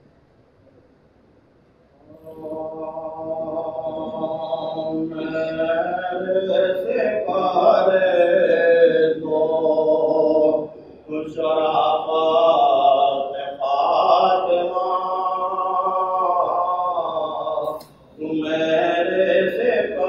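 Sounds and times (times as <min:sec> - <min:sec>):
man chanting melodically: 0:02.1 - 0:20.0.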